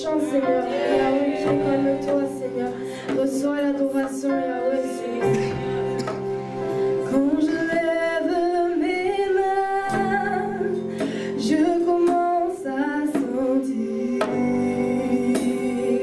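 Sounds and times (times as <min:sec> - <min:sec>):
women singing worship song: 0:00.0 - 0:06.2, 0:07.0 - 0:16.0
held instrumental chords: 0:00.0 - 0:13.4.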